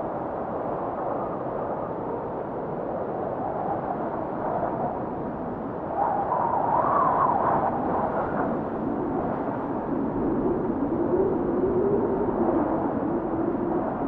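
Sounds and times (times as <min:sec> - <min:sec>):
wind blowing with whistling gusts: 0:00.0 - 0:14.0.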